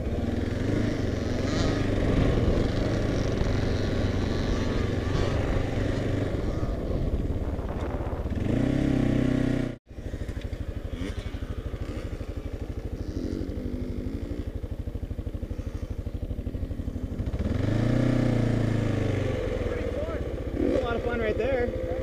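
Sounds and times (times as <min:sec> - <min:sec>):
motorcycle engine idling: 0:00.0 - 0:22.0
motorcycle engine under load: 0:00.0 - 0:22.0.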